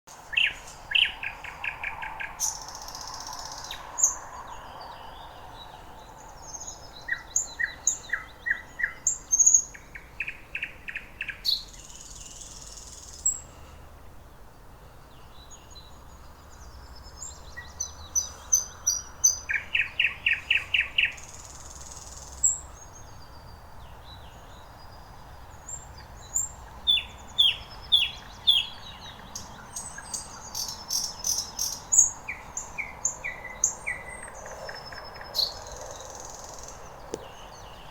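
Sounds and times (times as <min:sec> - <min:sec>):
nightingale singing: 0:00.1 - 0:13.5, 0:15.2 - 0:37.9.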